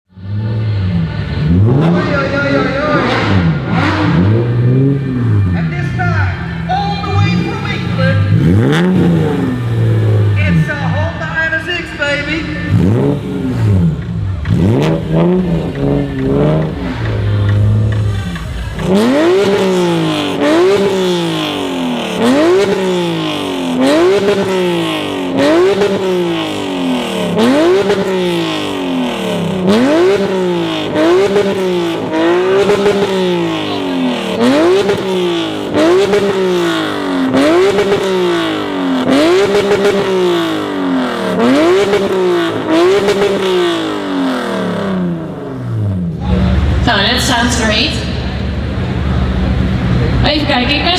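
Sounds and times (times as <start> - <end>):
car engine revving: 0.1 - 50.9.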